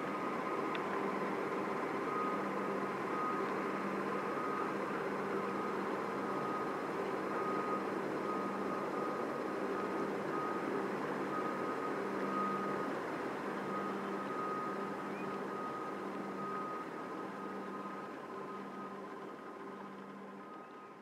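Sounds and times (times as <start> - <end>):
reversing alarm beeping: 0.0 - 20.9
mechanical hum and rumble: 0.0 - 21.0.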